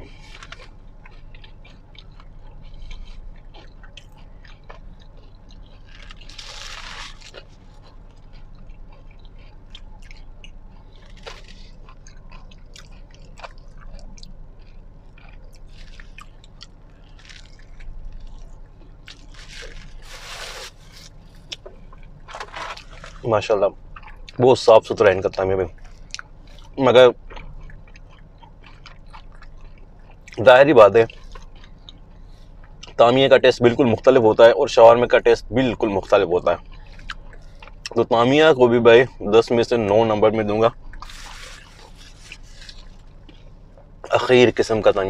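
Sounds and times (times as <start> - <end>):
person chewing and biting food: 0.0 - 24.4, 25.2 - 33.0, 36.0 - 38.0, 40.7 - 44.1
steady low hum: 0.0 - 45.0.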